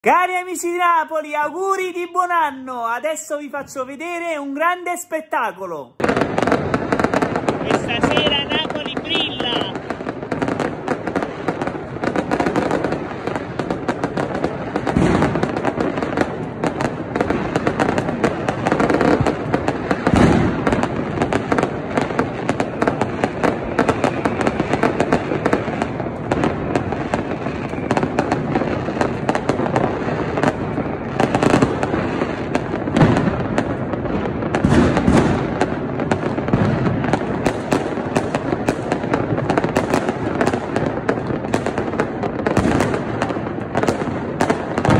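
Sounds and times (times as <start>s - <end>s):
fireworks crackling and banging: 0.0s - 44.9s
fireworks booms: 6.0s - 44.9s.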